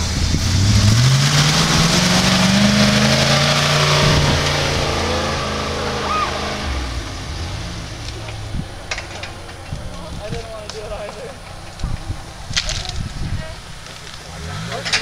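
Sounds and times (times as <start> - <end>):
truck engine revving hard: 0.0 - 10.8, 11.4 - 15.0.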